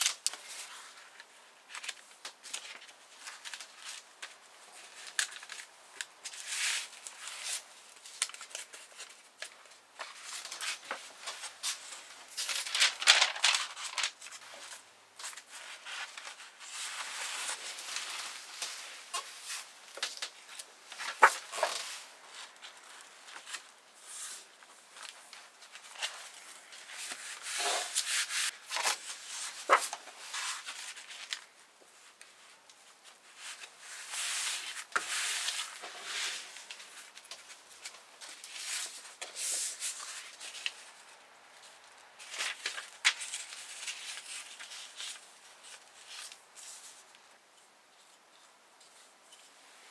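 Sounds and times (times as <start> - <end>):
paper rustling and sliding: 0.0 - 31.5, 33.0 - 41.1, 42.2 - 47.2.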